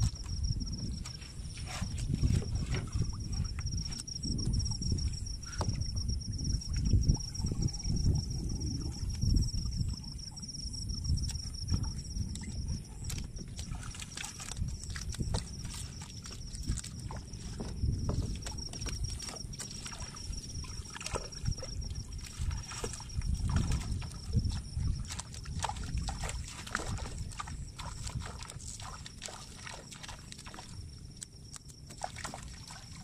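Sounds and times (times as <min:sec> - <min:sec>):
water sloshing and dripping: 0:00.0 - 0:33.0.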